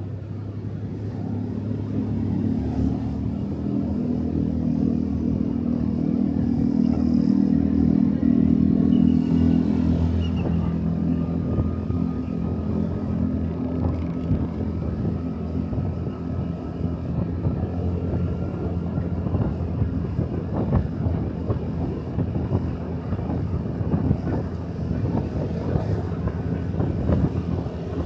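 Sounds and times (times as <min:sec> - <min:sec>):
motorcycle engine running: 0:01.0 - 0:28.0.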